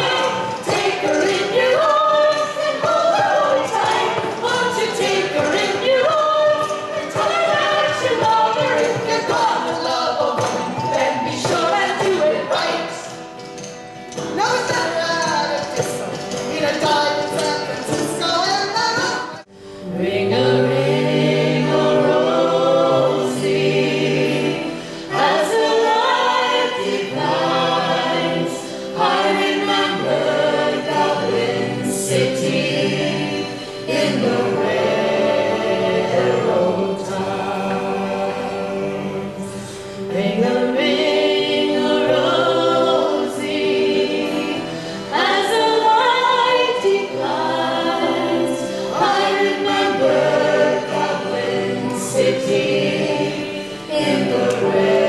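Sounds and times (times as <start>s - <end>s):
choir singing: 0.0s - 14.5s, 19.4s - 55.0s.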